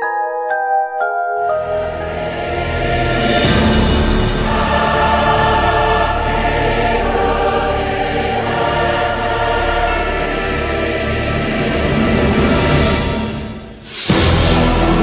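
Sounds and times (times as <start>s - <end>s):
low musical accompaniment: 0.0s - 13.2s
choir singing held chords: 1.4s - 15.0s.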